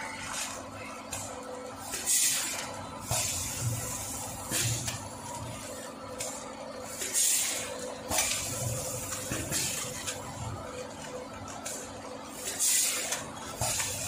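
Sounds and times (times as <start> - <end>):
packaging machine humming: 0.0 - 14.0.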